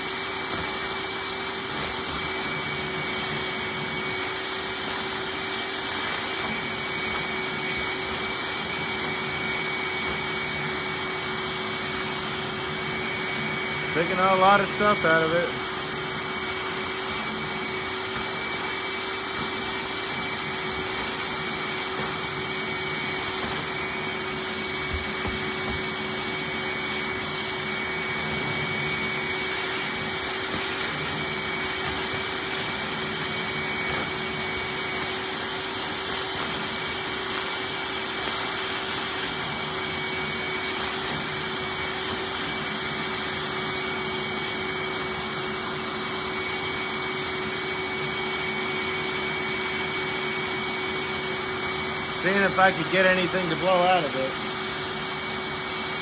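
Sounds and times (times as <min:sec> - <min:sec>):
shop vacuum running: 0:00.0 - 0:56.0.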